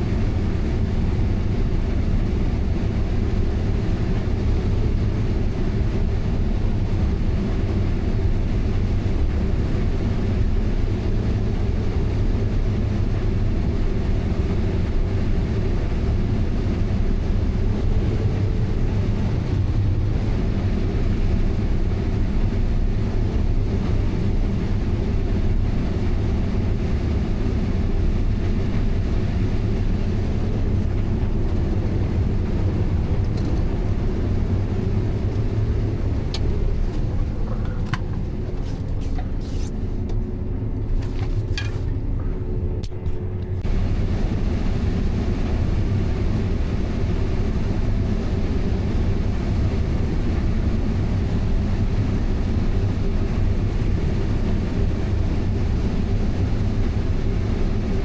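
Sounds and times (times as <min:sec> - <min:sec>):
faint hum: 0:00.0 - 0:58.0
farm machinery engine rumbling: 0:00.0 - 0:58.0.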